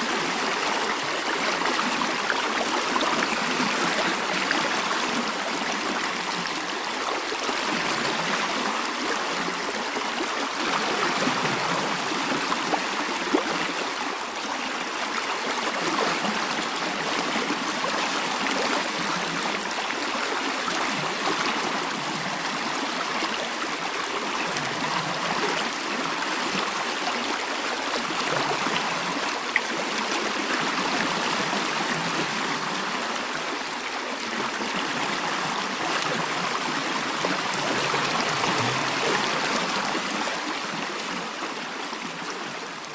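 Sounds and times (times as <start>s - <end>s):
stream water rushing and trickling: 0.0s - 42.9s.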